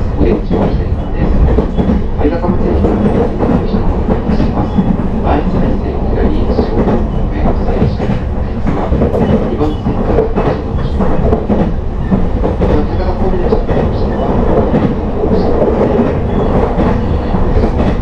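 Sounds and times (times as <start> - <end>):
train rumble from inside carriage: 0.0 - 18.0.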